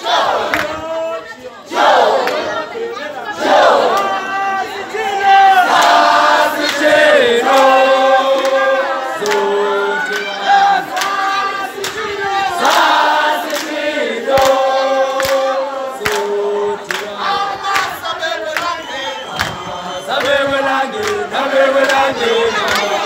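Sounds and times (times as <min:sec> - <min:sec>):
crowd singing together: 0:00.0 - 0:23.0.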